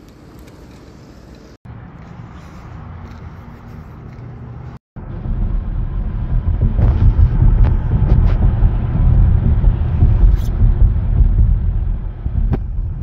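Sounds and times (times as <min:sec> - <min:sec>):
car road noise rumble: 0:00.9 - 0:13.0.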